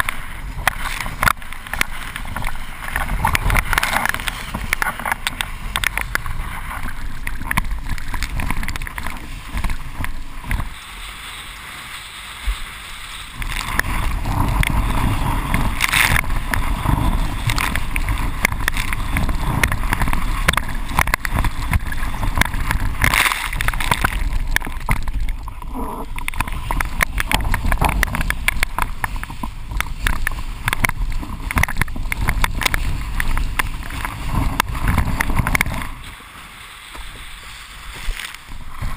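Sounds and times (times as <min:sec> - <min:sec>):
water rushing and spraying: 0:00.0 - 0:38.9.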